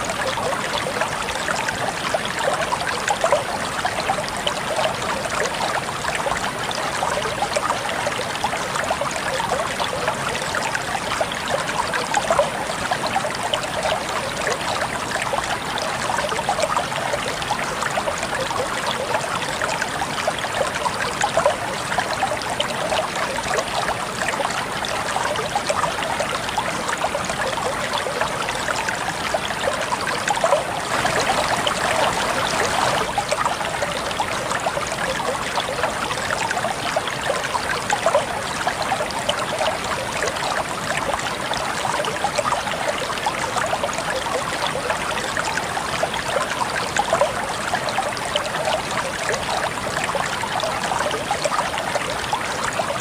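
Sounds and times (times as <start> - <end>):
water running and trickling: 0.0 - 53.0.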